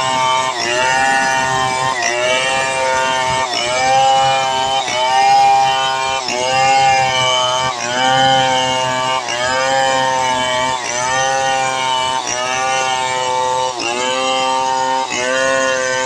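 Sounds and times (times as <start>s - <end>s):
chainsaw cutting a log: 0.0s - 16.0s.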